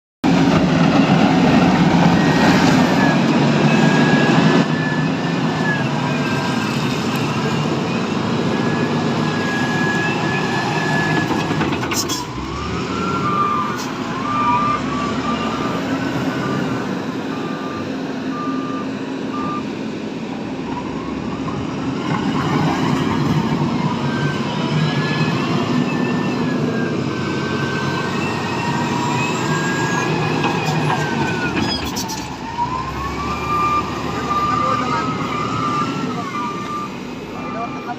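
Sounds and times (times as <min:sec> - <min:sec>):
diesel construction machine whining: 0:00.2 - 0:37.9
reversing alarm beeping: 0:00.9 - 0:19.7, 0:20.5 - 0:37.9.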